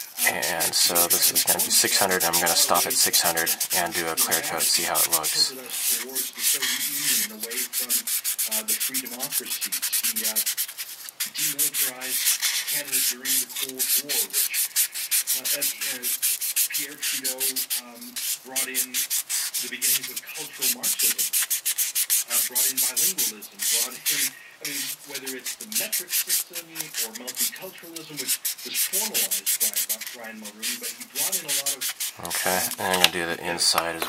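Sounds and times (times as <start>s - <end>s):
sanding sponge rasping on plastic: 0.0s - 34.0s.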